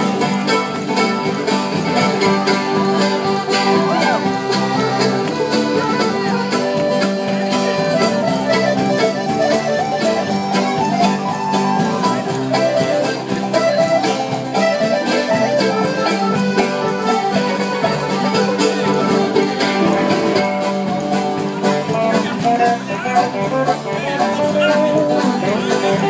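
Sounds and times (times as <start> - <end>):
accordion: 0.0 - 26.0
string instruments: 0.0 - 26.0
strummed acoustic guitar: 0.0 - 26.0.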